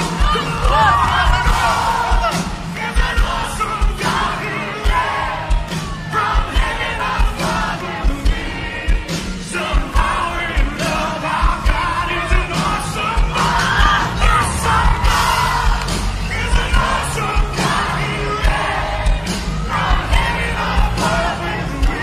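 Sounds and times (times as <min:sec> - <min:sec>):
crowd shouting along: 0:00.0 - 0:22.0
steady drum beat: 0:00.0 - 0:22.0
voices singing: 0:00.0 - 0:22.0
worship band playing: 0:00.0 - 0:22.0.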